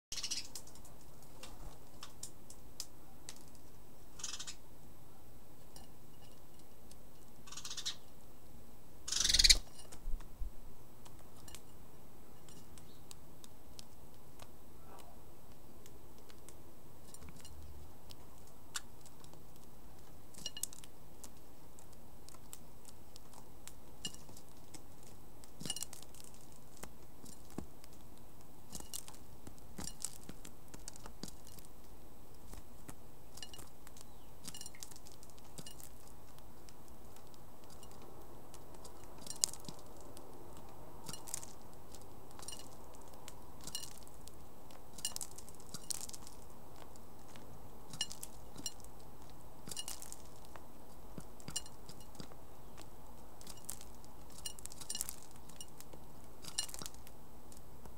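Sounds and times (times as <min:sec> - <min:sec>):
bird pecking seed: 0:00.1 - 0:04.6, 0:05.6 - 0:08.3, 0:09.1 - 0:57.9
rustle: 0:00.1 - 0:57.9.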